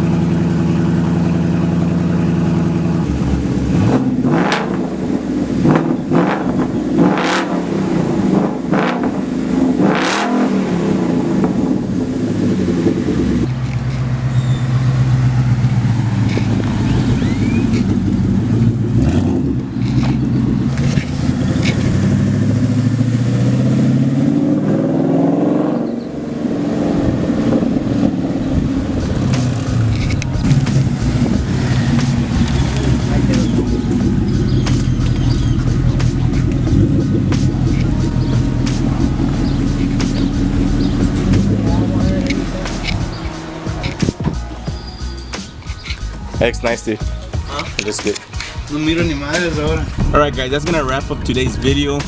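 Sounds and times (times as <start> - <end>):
car engine and exhaust running: 0.0 - 52.0.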